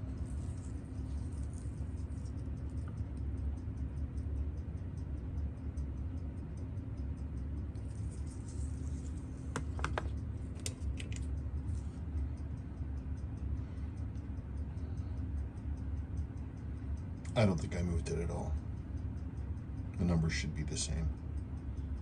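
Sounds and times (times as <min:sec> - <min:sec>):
fast even watch ticking: 0:00.0 - 0:22.0
steady low hum: 0:00.0 - 0:22.0.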